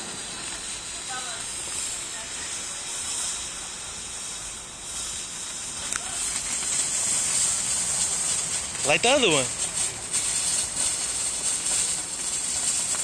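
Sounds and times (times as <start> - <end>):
firework fountain hissing: 0.0 - 13.0.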